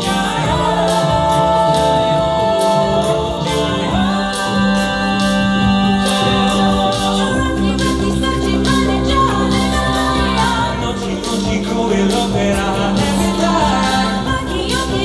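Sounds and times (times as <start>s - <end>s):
steady beat: 0.0s - 15.0s
vocal group singing chords: 0.0s - 15.0s.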